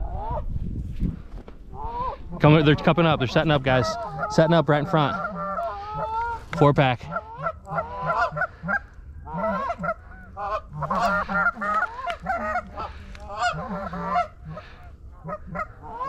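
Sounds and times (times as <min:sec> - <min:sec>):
geese honking: 0:01.8 - 0:16.0.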